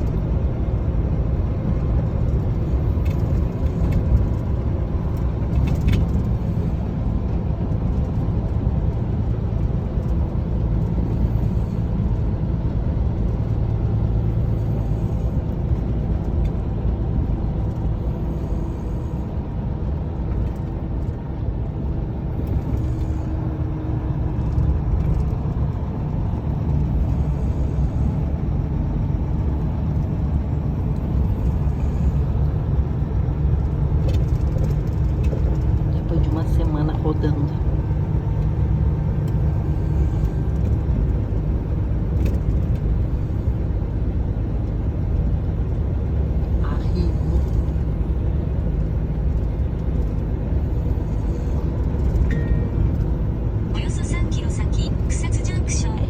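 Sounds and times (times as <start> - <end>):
motor vehicle rumbling: 0.0 - 56.0.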